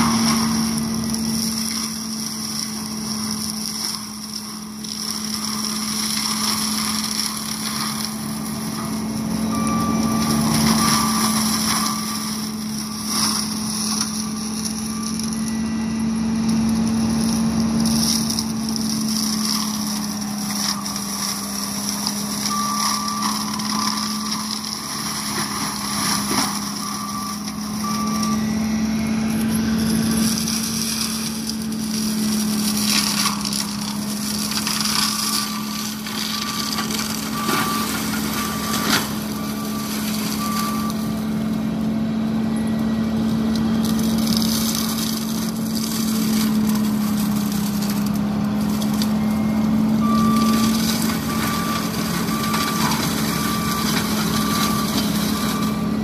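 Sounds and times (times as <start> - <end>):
wood cracking: 0.0 - 28.6, 29.2 - 42.0, 42.8 - 56.0
mulcher grinding brush: 0.0 - 56.0.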